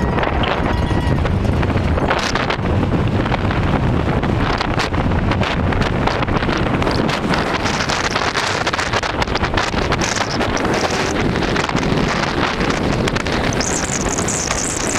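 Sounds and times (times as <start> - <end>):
car road noise: 0.0 - 14.9
wind buffeting microphone: 0.0 - 14.9.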